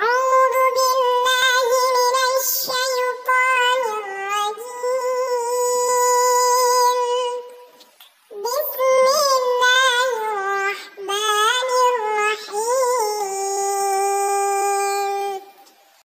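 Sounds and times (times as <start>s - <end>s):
child-like voice chanting: 0.0s - 15.6s.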